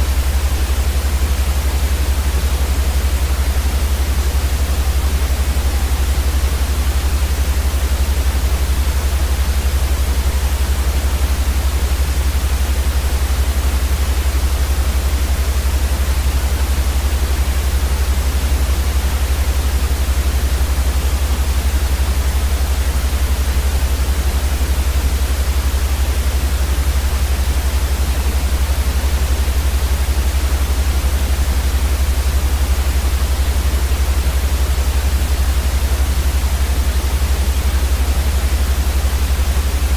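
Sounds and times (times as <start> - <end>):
loud white noise hiss: 0.0 - 39.9.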